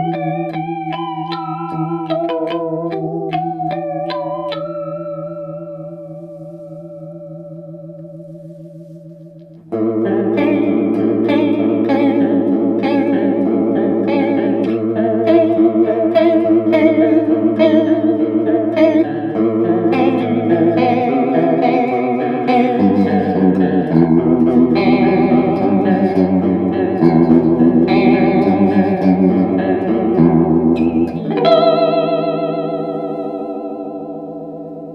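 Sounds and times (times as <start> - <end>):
electric guitar chords with chorus: 0.0 - 34.9.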